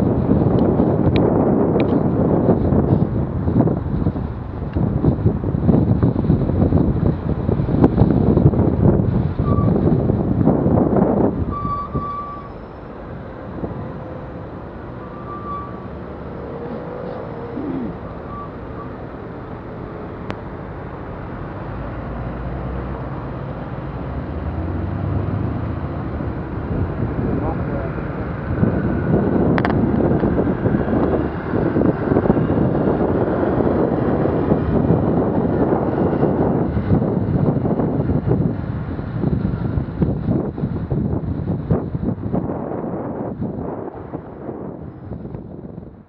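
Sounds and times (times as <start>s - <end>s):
slow city traffic: 0.0s - 46.0s
wind buffeting microphone: 0.0s - 46.0s.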